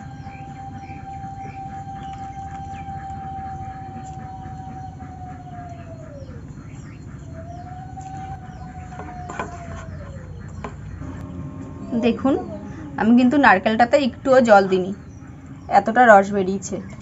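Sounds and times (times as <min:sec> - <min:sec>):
high bird chirps: 0:00.0 - 0:17.0
siren-like wail: 0:00.0 - 0:17.0.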